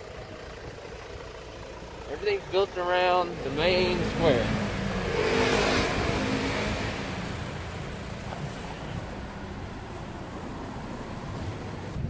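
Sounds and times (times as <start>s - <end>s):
steady traffic noise: 0.0s - 12.0s
car passing: 2.1s - 12.0s.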